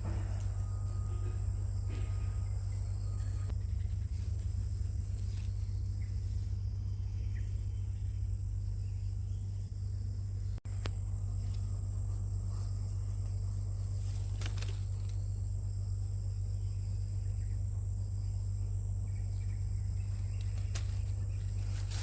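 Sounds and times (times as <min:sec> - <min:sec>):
high-pitched insect drone: 0:00.0 - 0:22.0
low hum: 0:00.0 - 0:22.0.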